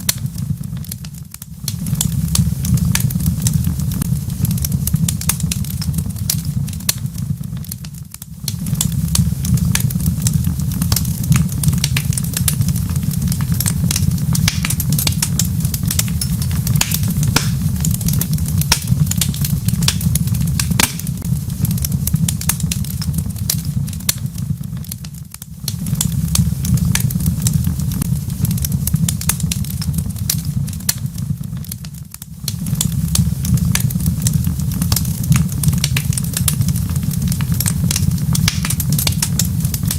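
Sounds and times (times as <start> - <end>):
low rumble of fire: 0.0 - 39.9
wood fire crackling and popping: 0.0 - 39.9.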